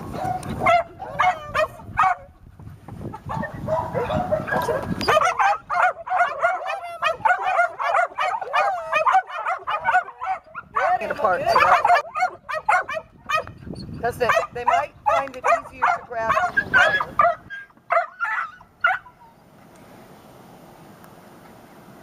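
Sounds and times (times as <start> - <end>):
dog whining and yipping: 0.2 - 2.3, 3.3 - 19.4.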